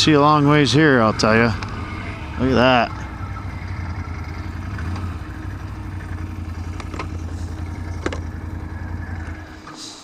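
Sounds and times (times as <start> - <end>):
atv engine running: 0.0 - 9.8.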